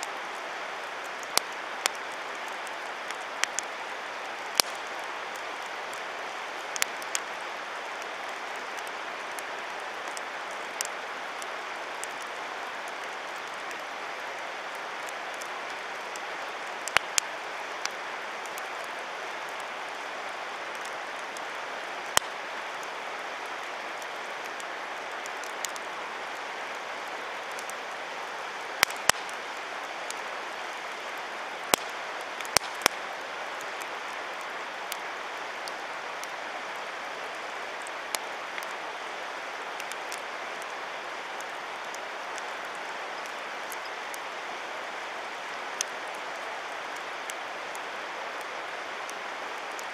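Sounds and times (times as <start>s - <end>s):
campfire crackling and popping: 0.0s - 49.9s
steady rushing hiss: 0.0s - 49.9s.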